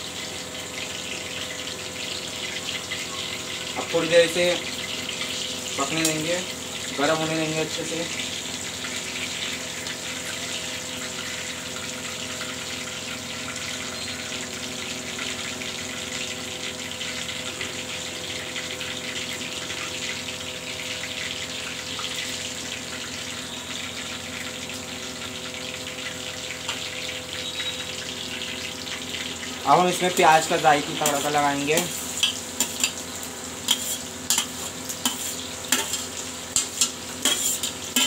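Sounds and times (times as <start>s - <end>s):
seeds sizzling in hot oil: 0.0s - 38.0s.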